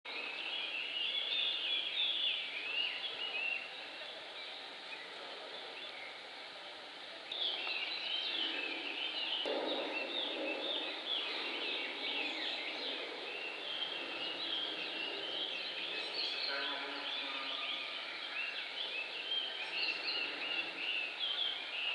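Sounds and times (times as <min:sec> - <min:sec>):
outdoor background hiss: 0:00.1 - 0:21.9
small birds chirping: 0:00.1 - 0:21.9.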